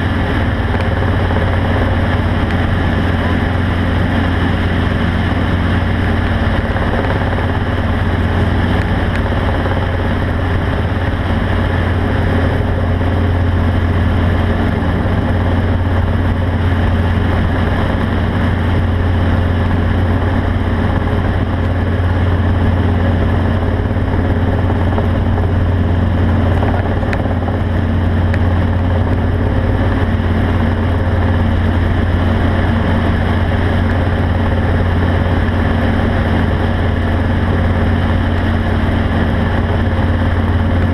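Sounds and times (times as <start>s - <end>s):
steady engine tones: 0.0s - 40.9s
vehicle engine droning: 0.0s - 40.9s.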